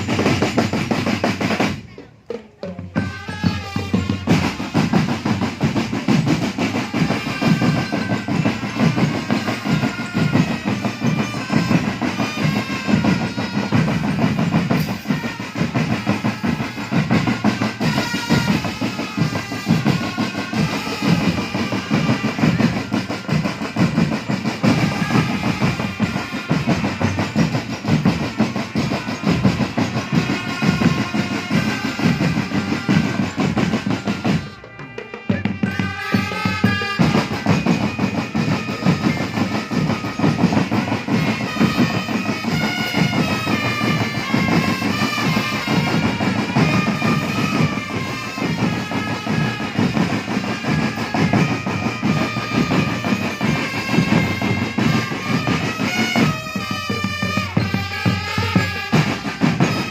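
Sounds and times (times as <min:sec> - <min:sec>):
marching drum band playing: 0:00.0 - 0:59.9.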